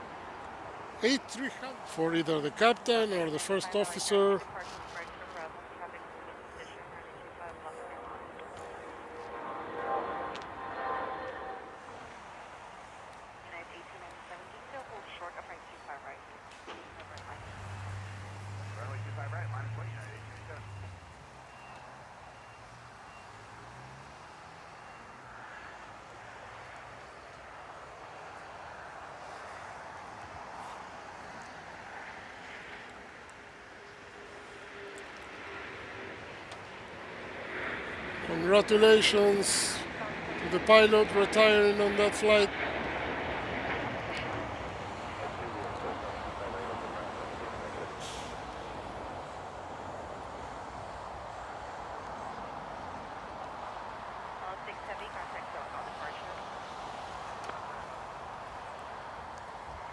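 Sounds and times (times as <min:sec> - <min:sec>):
distant jet engines: 0:00.0 - 0:59.9.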